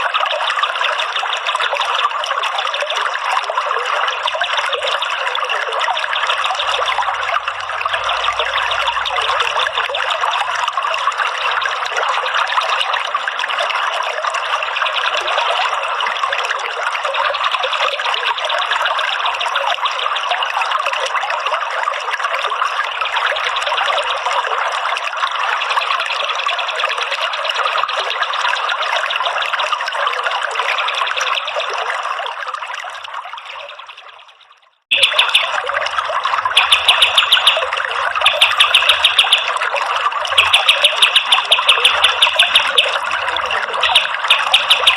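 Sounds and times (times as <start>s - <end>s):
trickling running water: 0.0s - 44.9s.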